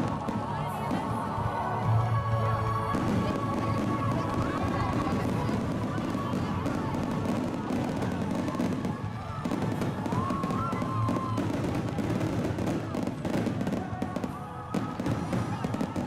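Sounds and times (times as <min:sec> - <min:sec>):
fireworks bursting and crackling: 0:00.0 - 0:01.6, 0:02.7 - 0:16.0.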